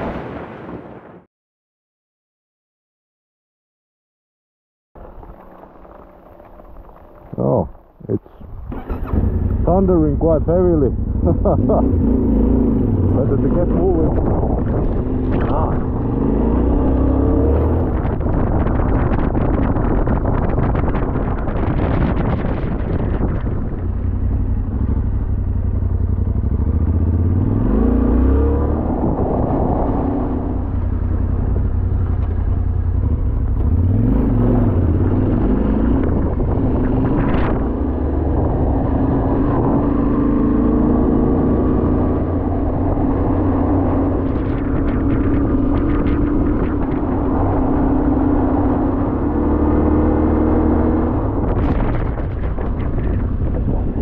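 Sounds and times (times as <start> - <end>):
motorcycle engine accelerating: 5.0 - 54.0.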